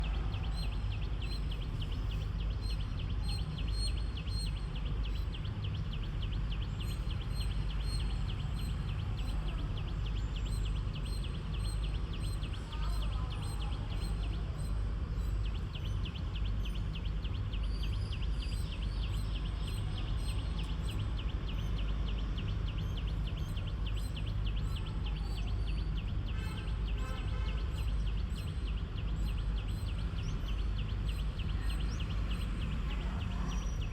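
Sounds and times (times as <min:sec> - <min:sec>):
constant low rumble: 0:00.0 - 0:33.9.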